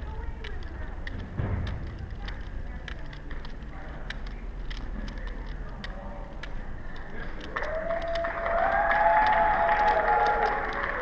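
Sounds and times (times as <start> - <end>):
low steady hum: 0.0 - 11.0
plastic cube clicks and clacks: 0.0 - 11.0.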